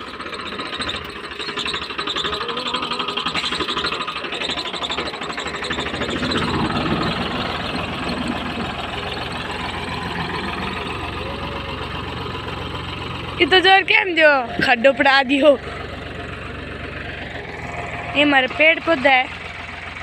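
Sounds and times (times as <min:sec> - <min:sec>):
tractor diesel engine pulsing: 0:00.0 - 0:20.0.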